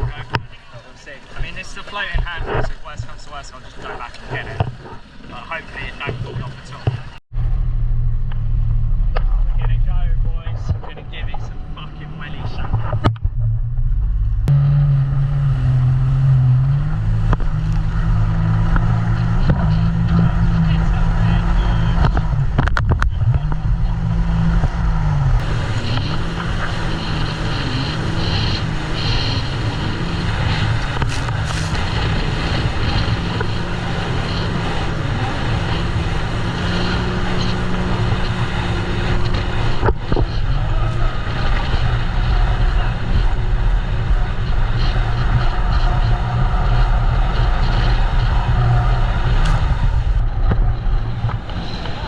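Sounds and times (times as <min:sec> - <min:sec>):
rushing water and air: 0:00.0 - 0:09.7, 0:13.9 - 0:52.0
jet ski engine running: 0:00.0 - 0:09.8, 0:10.8 - 0:52.0.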